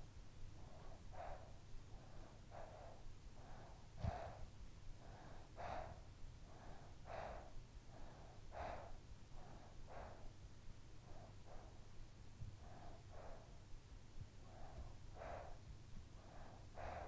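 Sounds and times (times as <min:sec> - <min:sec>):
child breathing softly: 0:00.0 - 0:17.0.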